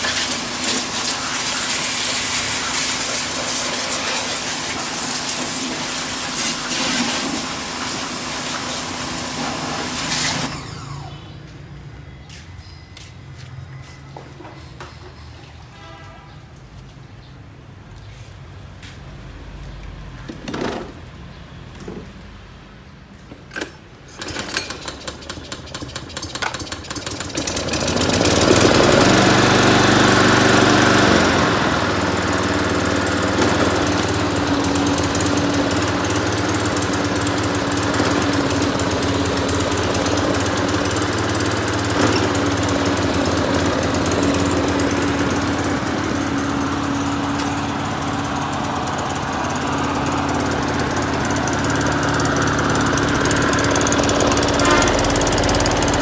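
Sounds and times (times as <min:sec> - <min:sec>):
lawn mower engine starting: 0:00.0 - 0:11.5, 0:20.3 - 0:21.1, 0:23.4 - 0:56.0.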